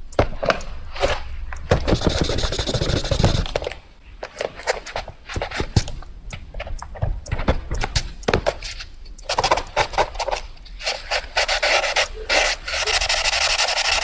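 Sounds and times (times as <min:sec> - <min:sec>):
pencil strokes or taps: 0:00.0 - 0:14.0
pencil scratching: 0:00.2 - 0:06.0, 0:08.2 - 0:14.0.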